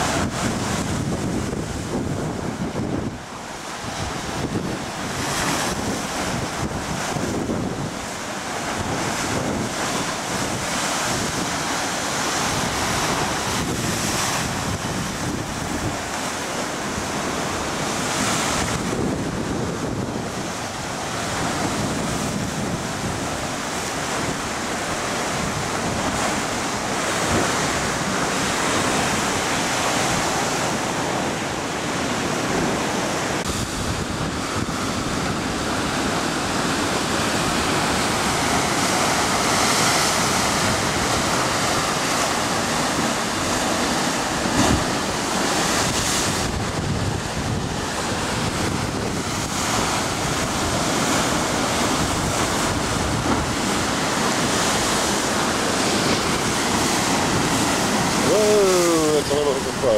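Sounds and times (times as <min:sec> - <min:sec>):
surf churning against rocks: 0:00.0 - 0:59.9.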